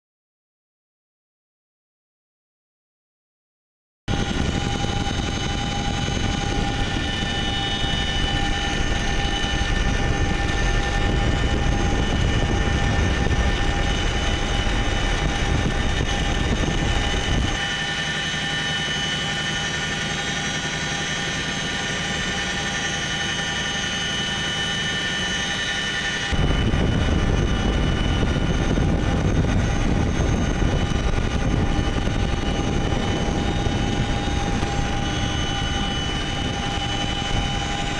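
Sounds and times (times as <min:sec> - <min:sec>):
helicopter rotor rumble: 0:04.1 - 0:37.9
high engine whine: 0:04.1 - 0:37.9.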